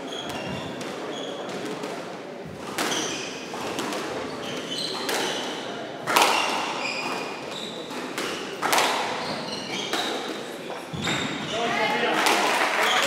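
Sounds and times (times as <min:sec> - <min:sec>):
shoes squeaking on wooden floor: 0:00.0 - 0:01.8, 0:02.4 - 0:12.1
squash ball hitting rackets and walls: 0:00.1 - 0:13.0.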